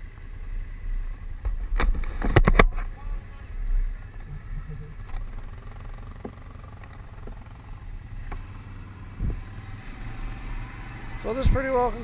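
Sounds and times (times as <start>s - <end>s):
engine idling low rumble: 0.0s - 12.0s.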